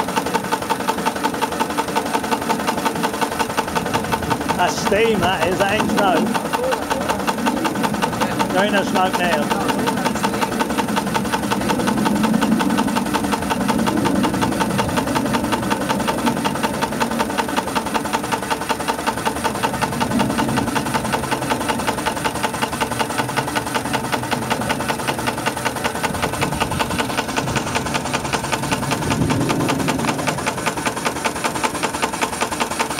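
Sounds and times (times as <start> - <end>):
steam engine beating rapidly: 0.0 - 32.9.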